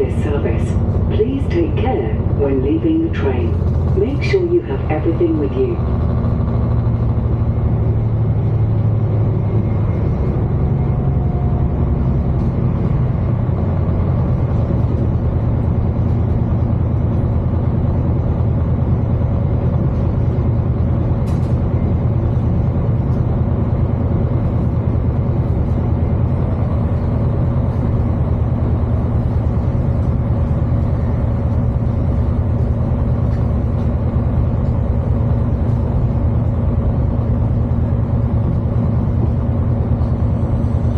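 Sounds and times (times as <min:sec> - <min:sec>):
diesel engine drone: 0:00.0 - 0:40.9.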